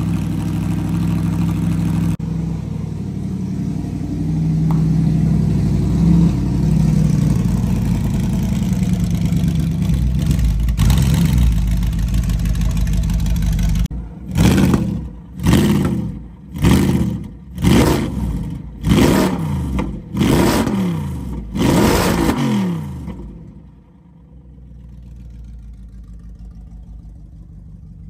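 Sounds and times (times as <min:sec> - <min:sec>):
car engine idling: 0:00.0 - 0:19.0, 0:23.0 - 0:28.0
car engine revving: 0:00.0 - 0:23.4.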